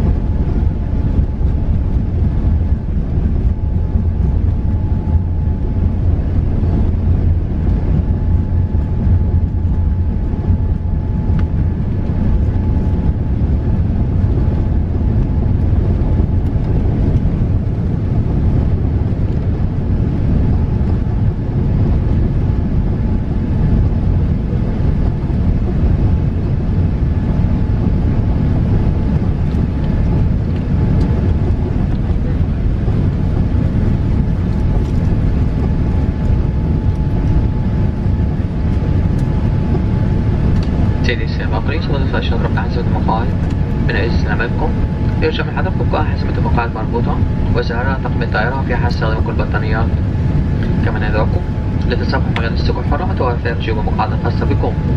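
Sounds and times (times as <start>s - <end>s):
jet engines rumbling: 0.0s - 54.9s.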